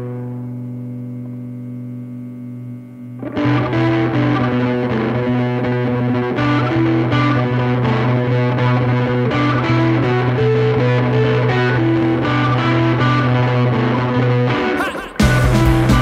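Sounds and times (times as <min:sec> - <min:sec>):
distorted electric guitar chord: 0:00.0 - 0:16.0
rock band with guitar riff: 0:00.0 - 0:16.0.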